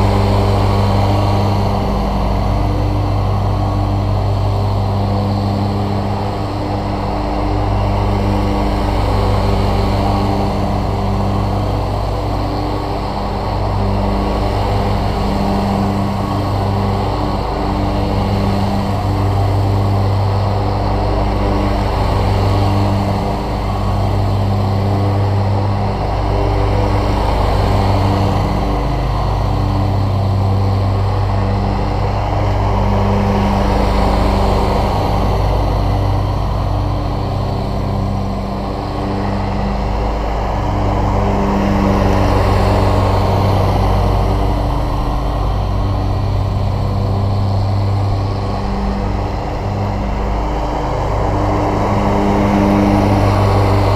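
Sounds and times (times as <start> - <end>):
lawn mower cutting grass: 0.0 - 53.9.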